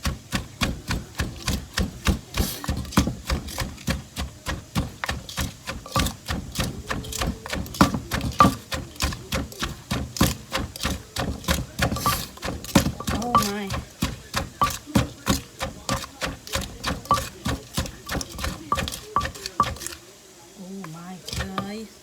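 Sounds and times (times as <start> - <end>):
pestle pounding in a mortar: 0.0 - 20.0, 21.2 - 21.8.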